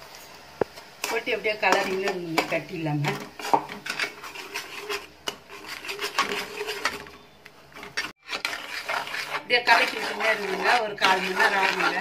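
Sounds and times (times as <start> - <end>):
metal spoon scraping pan: 1.0 - 7.2, 7.8 - 12.0.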